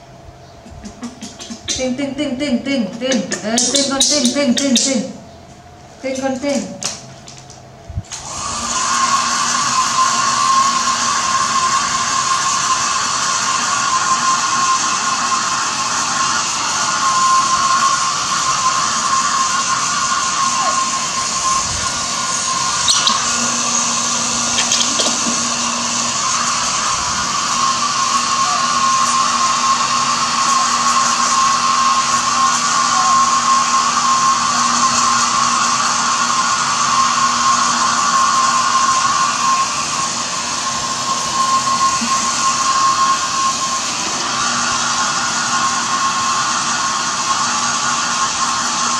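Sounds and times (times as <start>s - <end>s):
hair dryer running: 8.1s - 48.9s.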